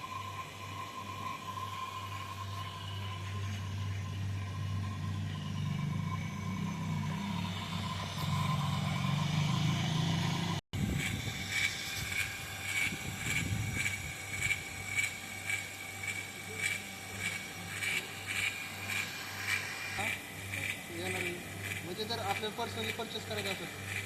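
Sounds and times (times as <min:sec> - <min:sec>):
vacuum pump humming: 0:00.0 - 0:24.0.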